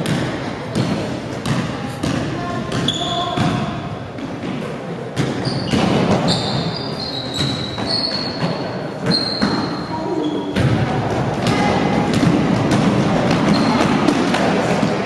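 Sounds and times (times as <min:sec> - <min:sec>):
sneakers squeaking: 0:00.0 - 0:15.0.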